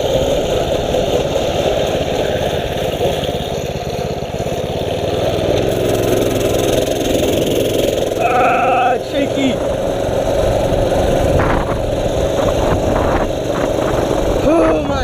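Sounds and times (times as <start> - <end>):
low engine hum: 0.0 - 15.0
mini bike engine running: 0.0 - 15.0
wind and road noise: 0.0 - 15.0.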